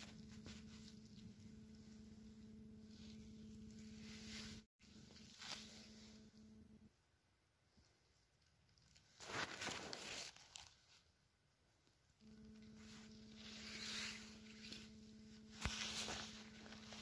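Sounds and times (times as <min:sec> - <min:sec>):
dry grass and moss rustling: 0:00.0 - 0:06.2, 0:08.0 - 0:11.2, 0:12.3 - 0:17.0
faint steady hum: 0:00.0 - 0:09.1, 0:11.0 - 0:17.0.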